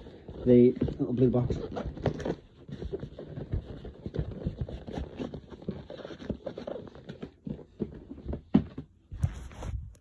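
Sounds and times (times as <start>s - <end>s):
knocks and taps of packing: 0.0s - 10.0s.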